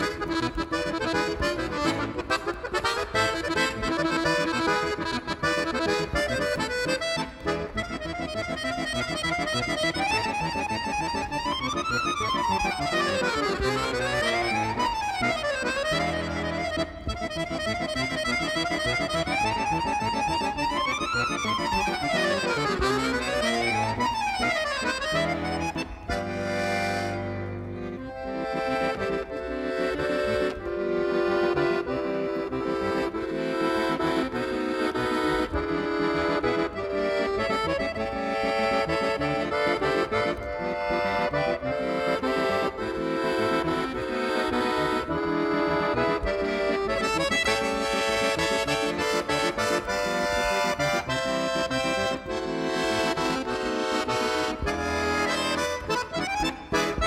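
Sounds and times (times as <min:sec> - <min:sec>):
button accordion playing: 0:00.0 - 0:57.0.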